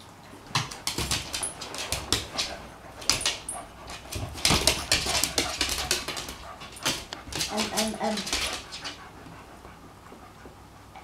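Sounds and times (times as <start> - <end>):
dogs snarling and yipping: 1.4 - 11.0.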